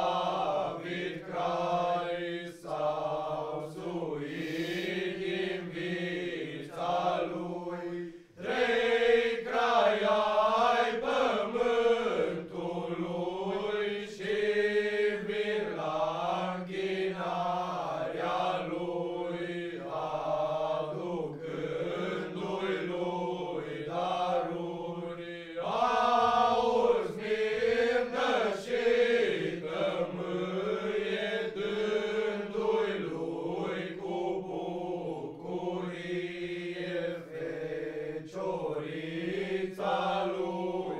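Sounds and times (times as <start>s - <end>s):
men singing unaccompanied carol: 0.0s - 40.9s.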